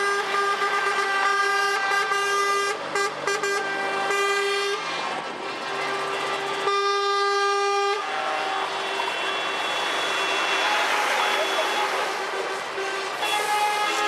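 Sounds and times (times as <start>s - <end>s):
truck air horns blasting: 0.0s - 4.9s, 5.7s - 14.0s.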